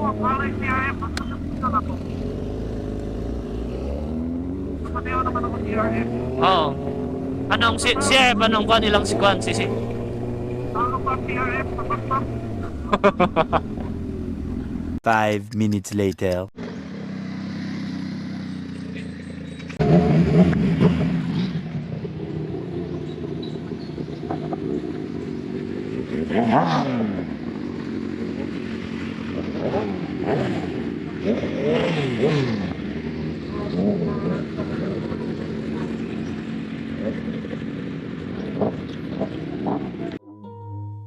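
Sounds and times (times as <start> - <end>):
motorcycle engine revving: 0.0 - 15.0, 16.6 - 40.2
wind and road noise: 0.0 - 15.0, 16.6 - 40.2.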